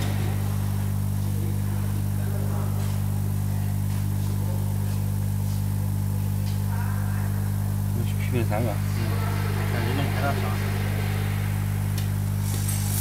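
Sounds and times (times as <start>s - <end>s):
machine electrical hum: 0.0s - 13.0s.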